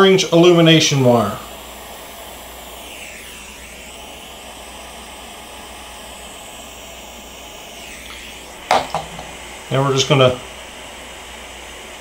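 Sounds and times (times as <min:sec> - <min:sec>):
torch burning with a hiss: 0:00.0 - 0:12.0.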